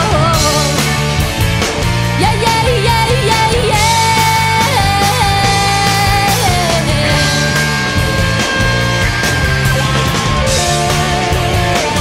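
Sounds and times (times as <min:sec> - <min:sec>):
pop-rock band playing: 0:00.0 - 0:12.0.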